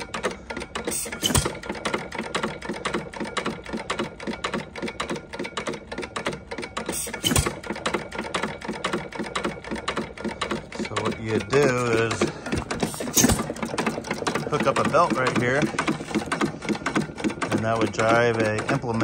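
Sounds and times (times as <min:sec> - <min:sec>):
engine mechanical clicking: 0:00.0 - 0:19.0.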